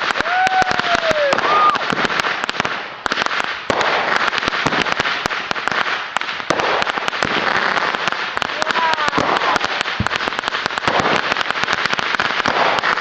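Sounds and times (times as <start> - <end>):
fireworks cracking and popping: 0.0 - 13.0.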